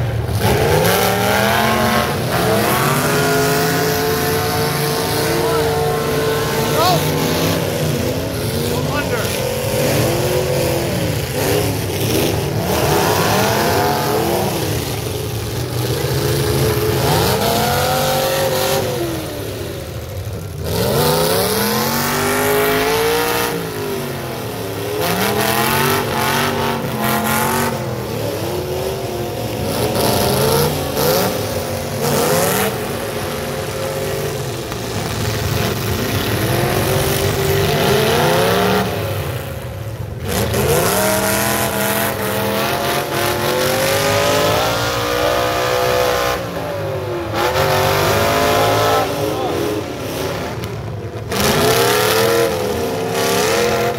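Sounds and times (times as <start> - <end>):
pickup truck engines revving: 0.0 - 53.9.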